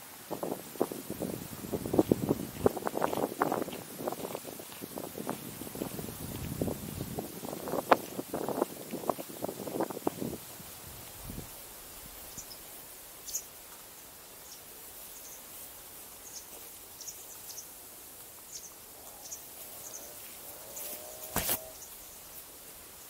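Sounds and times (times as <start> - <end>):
steady low hiss: 0.0 - 23.0.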